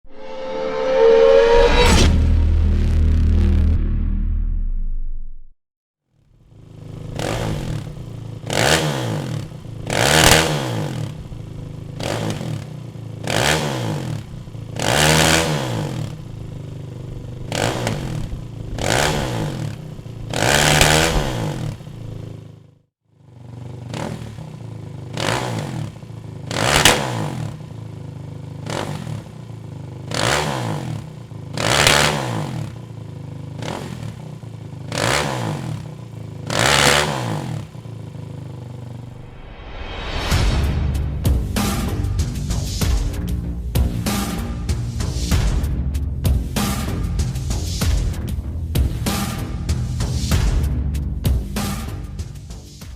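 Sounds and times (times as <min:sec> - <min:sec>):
quad bike engine idling and revving: 0:06.1 - 0:39.2, 0:41.0 - 0:52.9.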